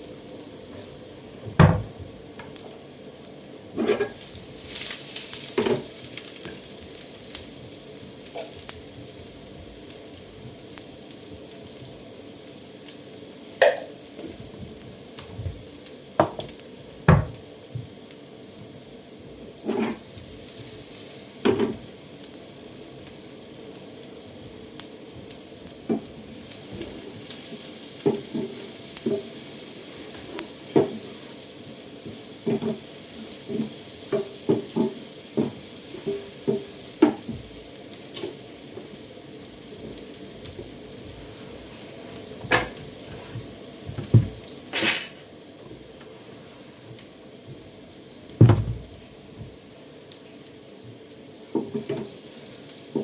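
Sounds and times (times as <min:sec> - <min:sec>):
food sizzling in a pot: 0:00.0 - 0:53.0.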